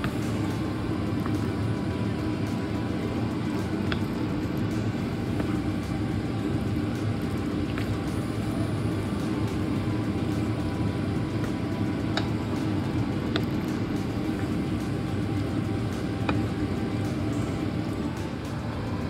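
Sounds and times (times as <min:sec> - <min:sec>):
low kitchen rumble: 0:00.0 - 0:19.0.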